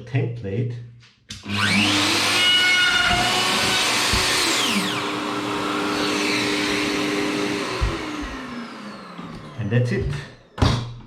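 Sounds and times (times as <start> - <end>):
router whining: 1.3 - 10.6.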